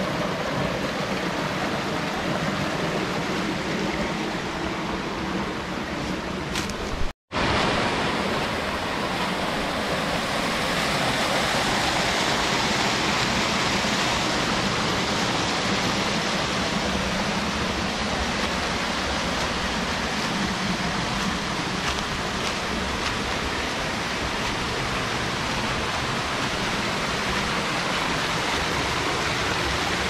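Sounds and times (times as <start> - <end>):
stream and waterfall rushing: 0.0 - 30.0.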